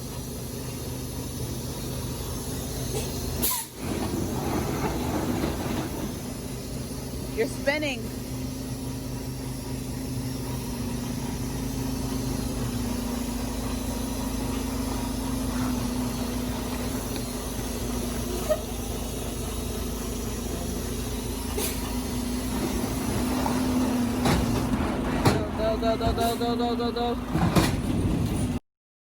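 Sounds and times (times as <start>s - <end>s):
diesel engine hum: 0.0s - 28.6s.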